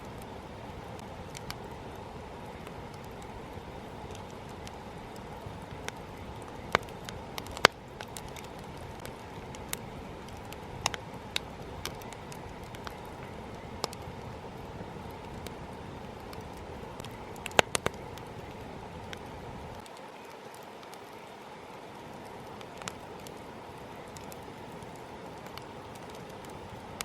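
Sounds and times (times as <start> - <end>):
burning wood crackling and popping: 0.0 - 27.0
campfire flames rustling: 0.0 - 27.0.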